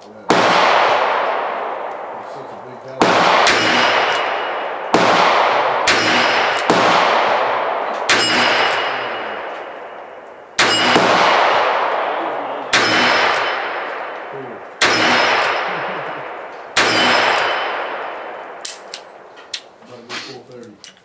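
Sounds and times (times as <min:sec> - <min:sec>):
revolver gunshots echoing: 0:00.2 - 0:19.4.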